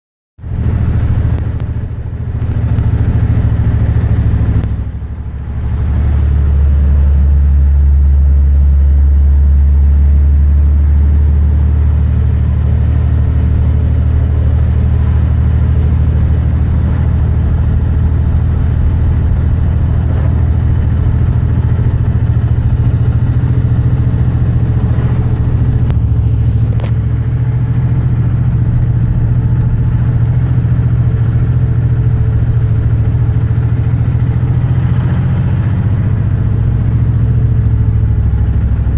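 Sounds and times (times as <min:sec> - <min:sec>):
diesel engine running: 0:00.4 - 0:38.9.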